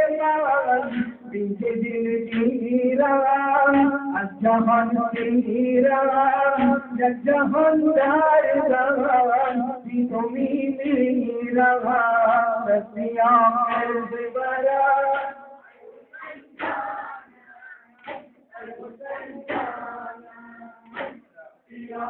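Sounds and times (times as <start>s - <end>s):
man chanting a lament: 0.0s - 22.0s.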